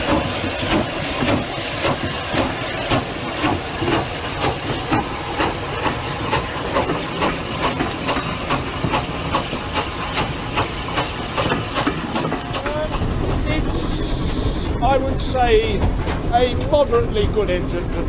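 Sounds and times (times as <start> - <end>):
steam hiss: 0.0 - 15.8
steam locomotive exhaust beats: 0.0 - 18.0.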